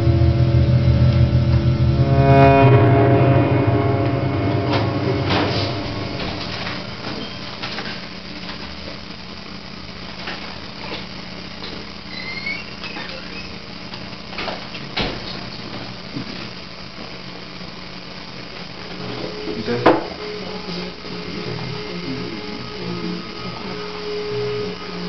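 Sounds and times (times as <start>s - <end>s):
low synthesizer drone: 0.0s - 14.4s, 16.0s - 25.0s.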